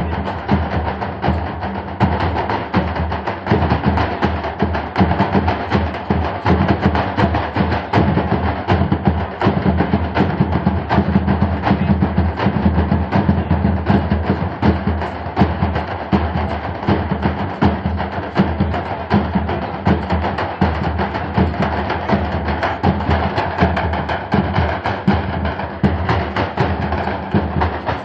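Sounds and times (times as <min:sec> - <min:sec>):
hand drums beating fast rhythm: 0:00.0 - 0:28.0.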